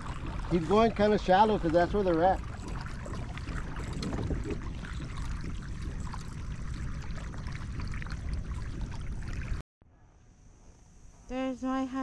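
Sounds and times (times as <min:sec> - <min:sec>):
steady low rumble: 0:00.0 - 0:09.6
water lapping against kayak hull: 0:00.0 - 0:09.6.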